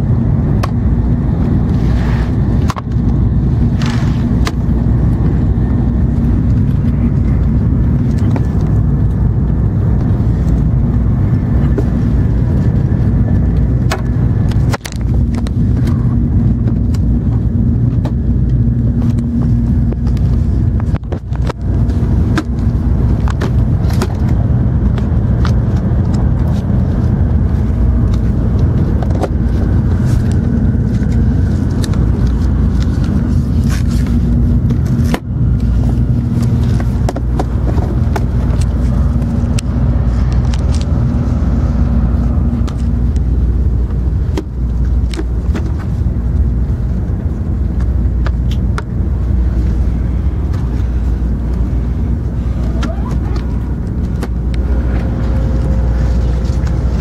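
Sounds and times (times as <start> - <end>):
steady hum: 0.0 - 57.0
train cabin low rumble: 0.0 - 57.0.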